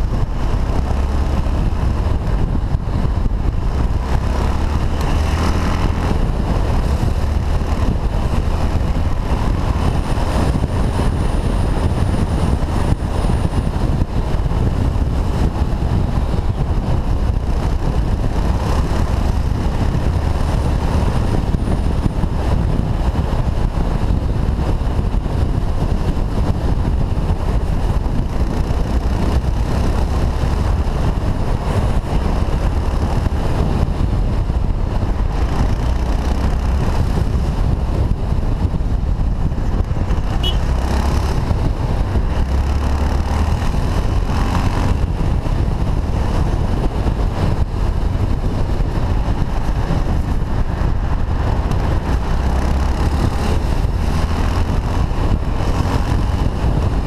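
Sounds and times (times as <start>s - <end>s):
car and truck traffic: 0.0s - 57.0s
motorcycle engine running: 0.0s - 57.0s
wind rumble on microphone: 0.0s - 57.0s.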